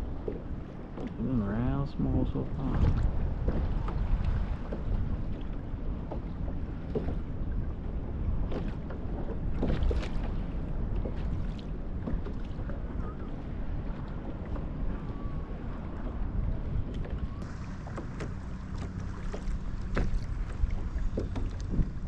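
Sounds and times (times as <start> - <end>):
water lapping against hull: 0.0 - 22.0
wind rumbling on microphone: 0.0 - 22.0.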